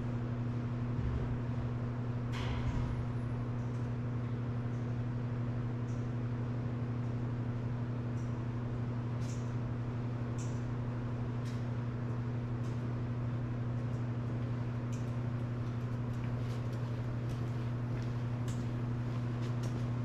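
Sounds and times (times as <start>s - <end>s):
workshop background hum: 0.0s - 20.0s.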